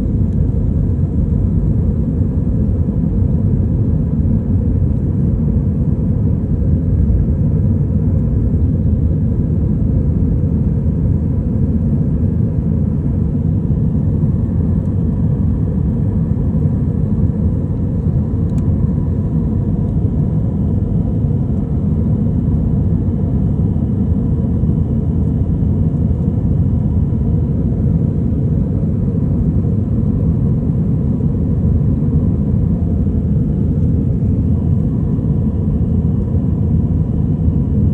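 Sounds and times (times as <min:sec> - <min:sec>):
faint steady hum: 0:00.0 - 0:37.9
jet engines rumbling in cabin: 0:00.0 - 0:37.9.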